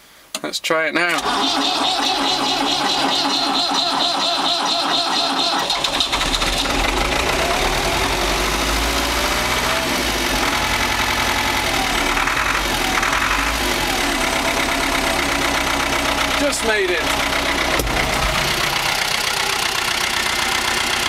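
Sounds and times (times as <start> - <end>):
starter motor cranking: 1.1 - 21.0
diesel tractor engine running: 1.2 - 21.0.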